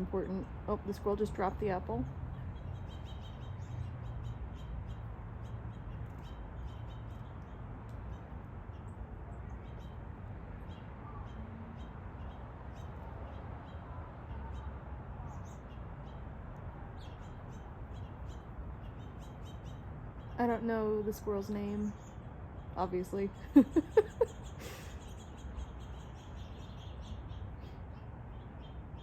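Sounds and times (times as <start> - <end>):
faint bird chirps and calls: 0.0 - 29.0.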